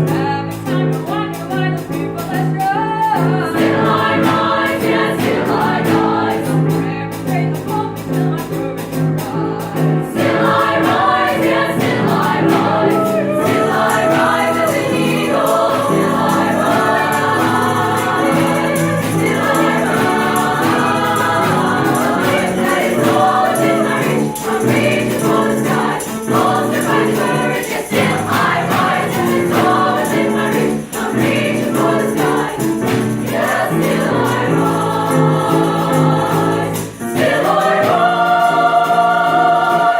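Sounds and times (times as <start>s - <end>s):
choir singing sustained chords: 3.5s - 6.8s, 10.1s - 39.9s.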